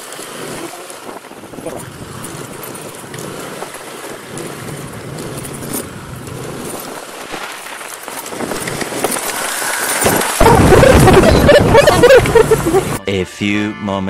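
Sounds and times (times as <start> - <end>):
motorcycle engine hum: 0.0 - 13.0
wind rushing on microphone: 0.3 - 7.5, 8.2 - 13.0.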